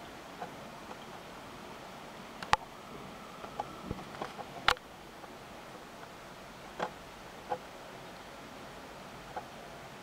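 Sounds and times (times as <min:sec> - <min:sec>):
heavy rain hissing: 0:00.0 - 0:10.0
raindrops ticking and tapping: 0:00.0 - 0:10.0.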